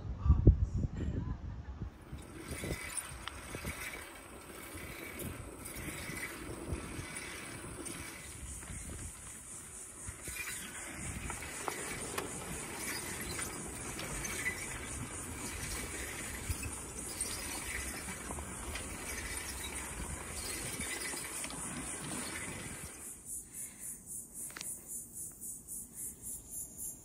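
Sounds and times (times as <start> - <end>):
steady rushing hiss: 2.0 - 27.0.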